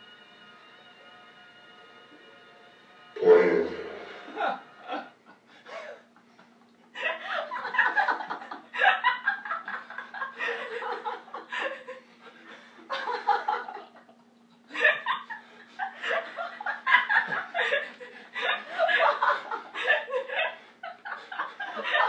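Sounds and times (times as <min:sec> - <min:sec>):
faint steady hum: 0:00.0 - 0:22.0
people laughing together: 0:03.7 - 0:22.0.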